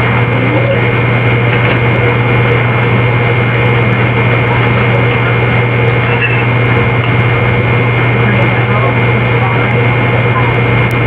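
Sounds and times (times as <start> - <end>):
computer hum and hiss: 0.0 - 11.0
high whine: 0.0 - 11.0.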